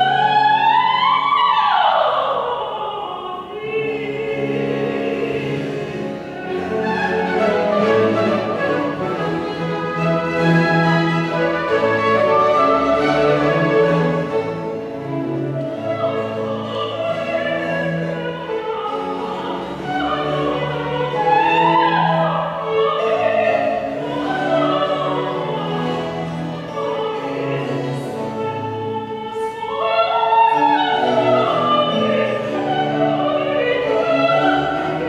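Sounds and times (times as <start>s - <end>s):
soprano singing: 0.0s - 35.0s
string orchestra with harpsichord: 0.0s - 35.0s.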